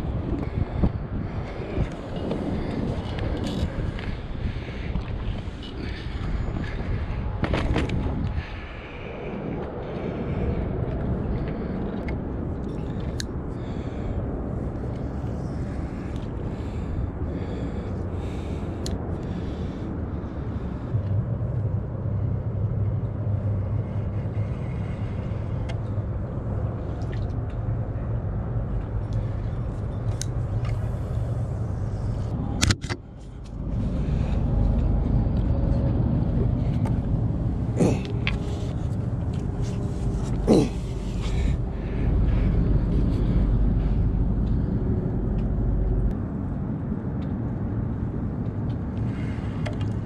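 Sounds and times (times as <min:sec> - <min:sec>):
low rumble: 0:00.0 - 0:50.0.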